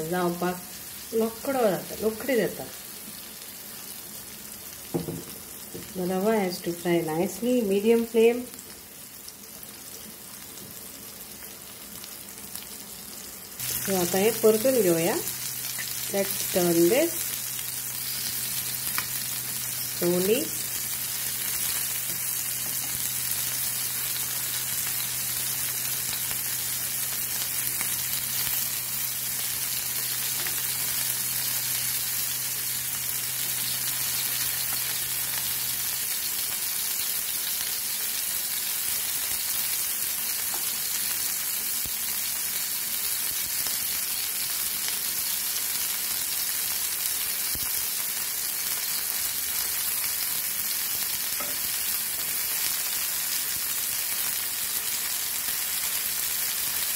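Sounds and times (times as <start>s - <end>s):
prawns sizzling in oil: 0.0s - 56.9s.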